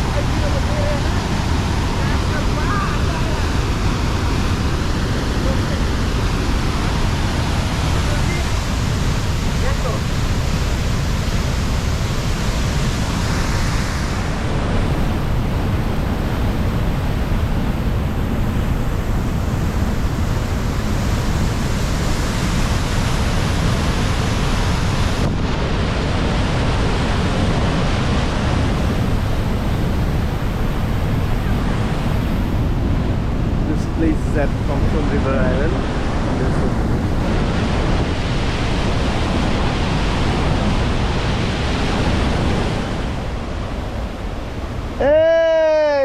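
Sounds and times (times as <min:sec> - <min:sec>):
wind buffeting microphone: 0:00.0 - 0:45.1
waterfall rushing: 0:00.0 - 0:46.0.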